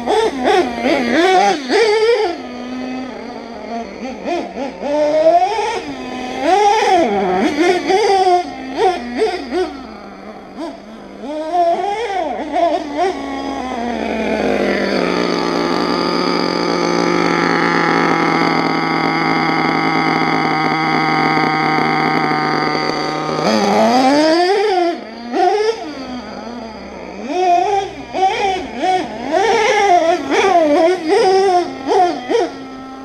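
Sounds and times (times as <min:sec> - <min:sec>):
model truck engine revving: 0:00.0 - 0:33.0.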